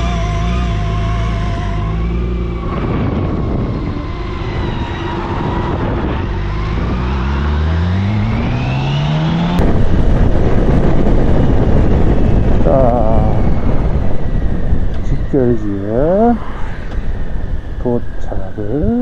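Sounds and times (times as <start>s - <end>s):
motorcycle engine accelerating: 0.0s - 17.6s
loud steady rushing noise: 1.0s - 19.0s.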